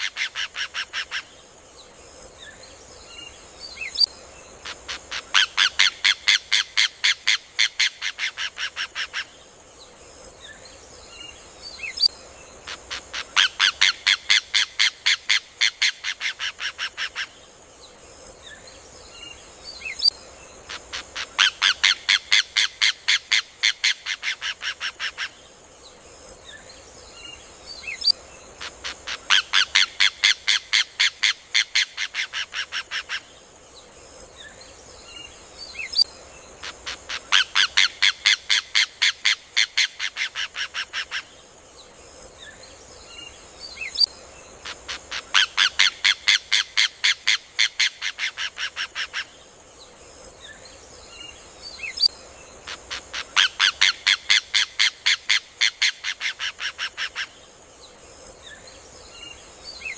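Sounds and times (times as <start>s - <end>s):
faint bird chirps: 0.0s - 59.9s
steady hiss: 0.0s - 59.9s.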